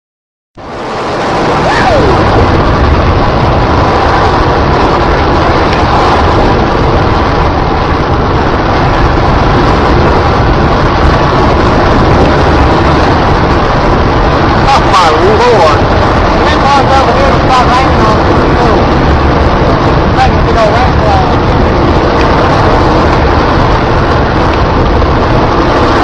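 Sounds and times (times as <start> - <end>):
loud steady roaring: 0.6 - 26.0.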